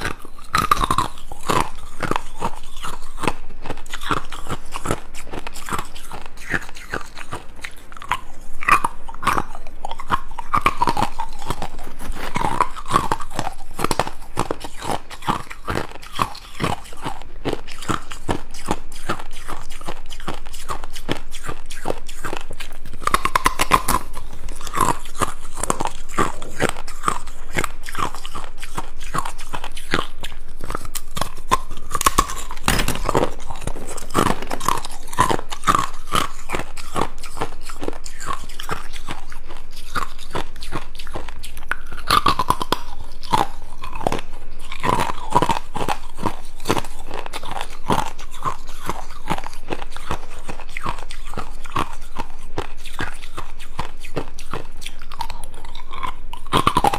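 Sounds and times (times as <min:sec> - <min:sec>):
ice cubes crunching when chewed: 0:00.0 - 0:56.9.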